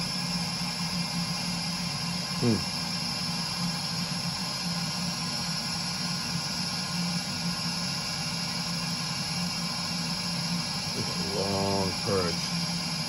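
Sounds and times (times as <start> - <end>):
boiler blower whooshing with hum: 0.0 - 13.0.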